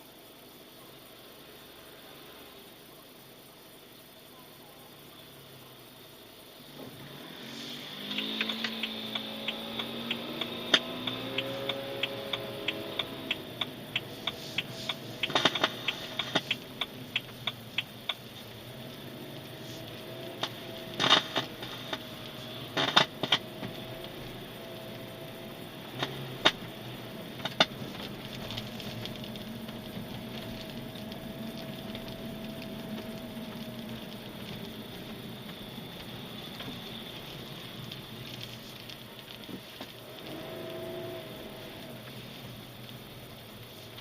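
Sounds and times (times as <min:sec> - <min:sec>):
faint steady tone: 0:00.0 - 0:44.0
car engine idling: 0:00.4 - 0:44.0.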